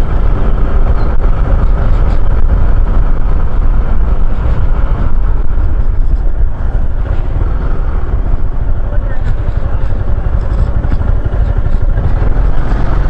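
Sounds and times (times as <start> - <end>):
scooter riding noise: 0.0 - 13.0
wind rumble: 0.0 - 13.0.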